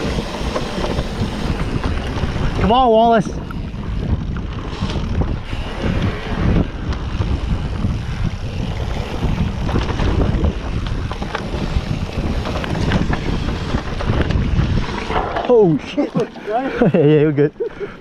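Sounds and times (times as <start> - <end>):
bike rattles: 0.0 - 18.0
bike rumbling on dirt trail: 0.0 - 18.0
wind buffeting microphone: 0.0 - 18.0.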